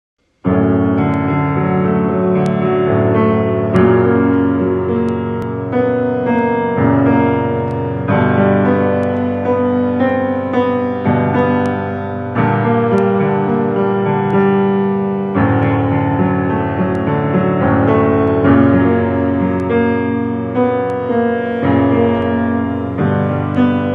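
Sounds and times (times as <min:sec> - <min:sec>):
grand piano playing chords: 0:00.4 - 0:23.9.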